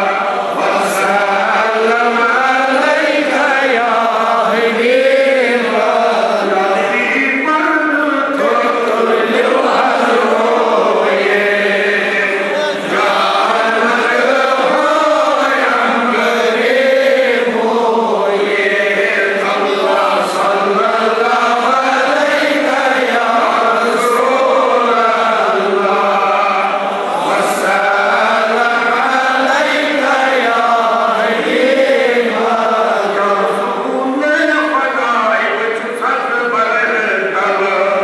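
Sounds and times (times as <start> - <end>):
men chanting together: 0.0 - 35.3.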